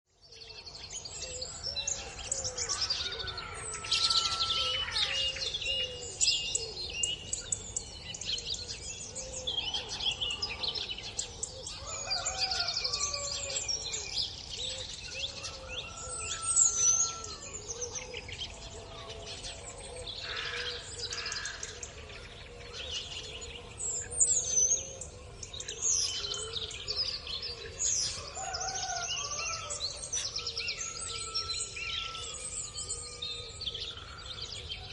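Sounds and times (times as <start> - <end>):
birds chirping chorus: 0.1 - 34.9
lower wavering bird calls: 0.7 - 34.9.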